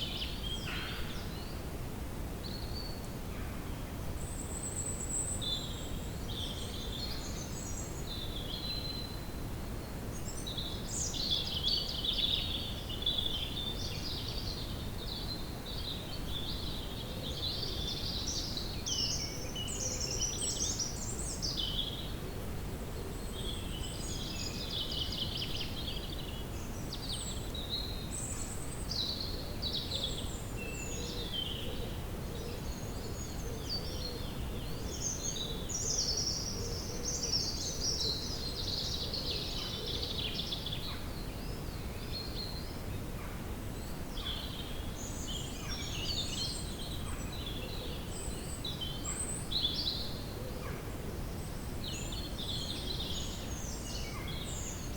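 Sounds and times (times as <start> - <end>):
songbirds singing and chirping: 3.8 - 22.3, 22.9 - 54.9.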